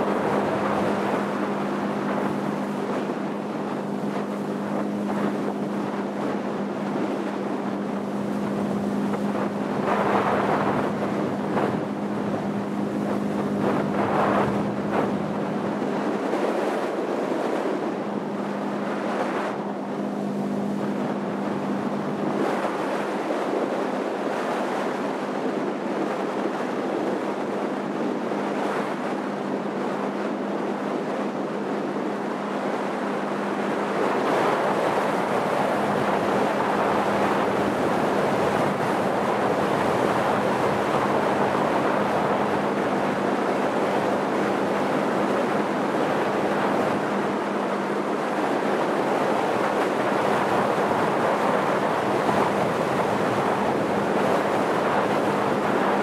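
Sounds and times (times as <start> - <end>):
motorboat engine hum: 0.0 - 56.0
water rushing along hull: 0.0 - 56.0
wind on microphone: 0.0 - 56.0.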